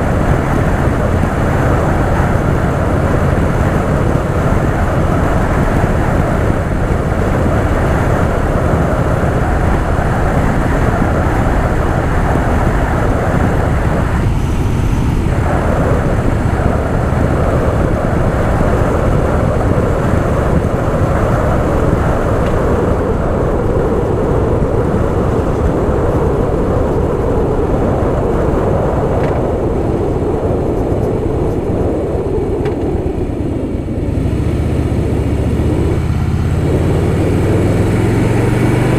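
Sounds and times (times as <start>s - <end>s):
motorcycle engine running: 0.0s - 28.5s, 32.4s - 38.9s
wind rush on microphone: 0.0s - 38.9s.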